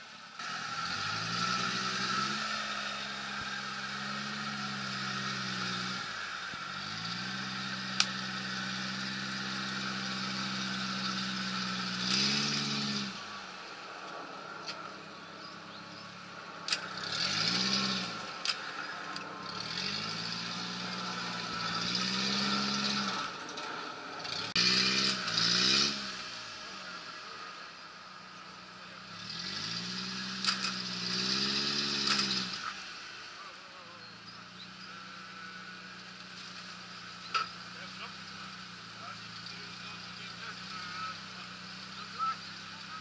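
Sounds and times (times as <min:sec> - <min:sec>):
engine revving in mud: 0:00.0 - 0:43.0.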